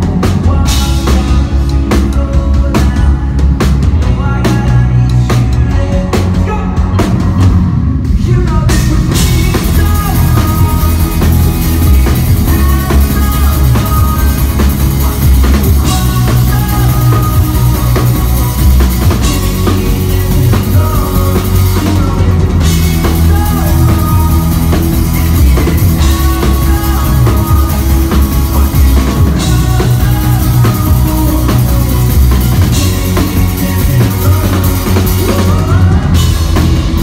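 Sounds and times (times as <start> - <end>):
drum kit: 0.0 - 37.0
rock band playing live: 0.0 - 37.0.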